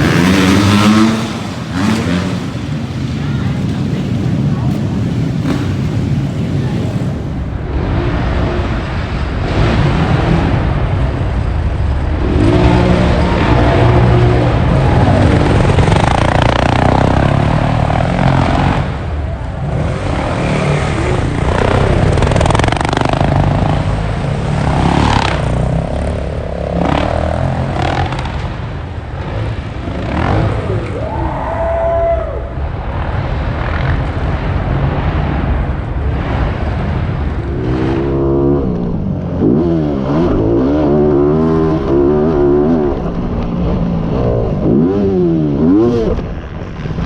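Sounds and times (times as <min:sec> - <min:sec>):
dirt bike engines revving: 0:00.0 - 0:47.0.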